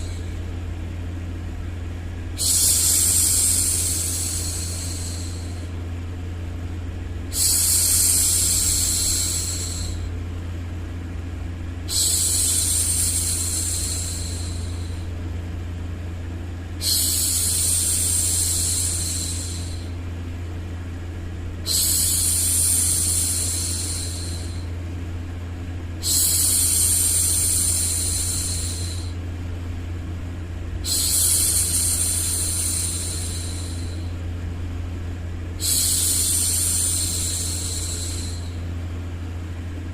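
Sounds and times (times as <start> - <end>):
low rumble background noise: 0.0 - 39.9.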